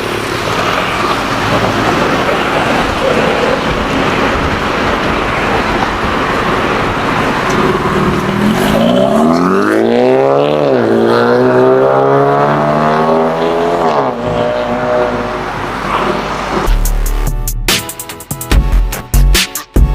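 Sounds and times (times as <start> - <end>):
car engine revving: 0.0 - 16.7
steady exhaust rushing: 0.0 - 16.7.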